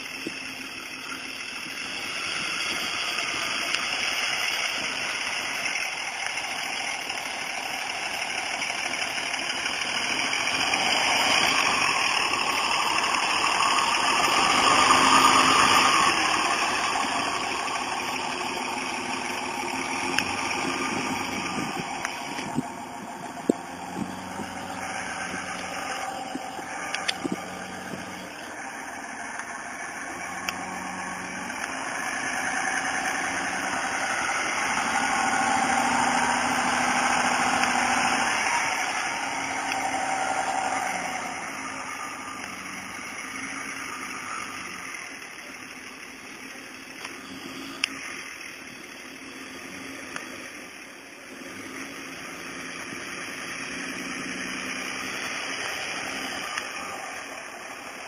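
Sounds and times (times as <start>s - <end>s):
truck engine running under load: 0.0s - 58.0s.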